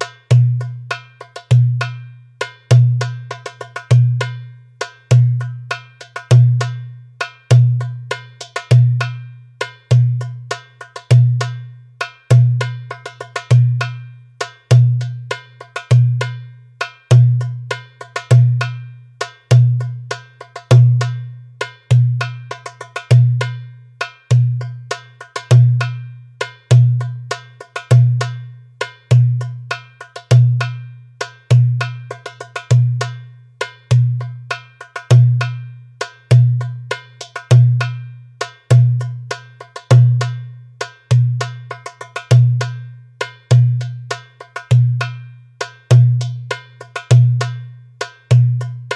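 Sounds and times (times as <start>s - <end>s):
goblet drum rhythm: 0.0s - 48.9s.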